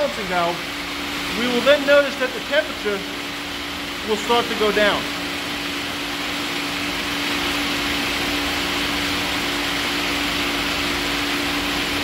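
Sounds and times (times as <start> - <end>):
gas heater burner rushing: 0.0 - 12.0.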